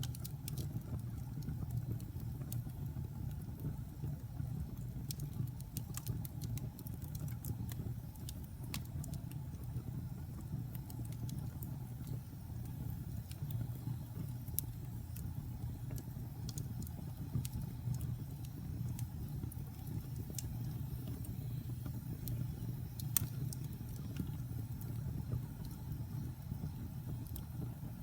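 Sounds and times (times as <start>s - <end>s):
logs crackling and popping: 0.0s - 4.0s, 4.6s - 27.7s
fire rumbling: 0.0s - 28.0s.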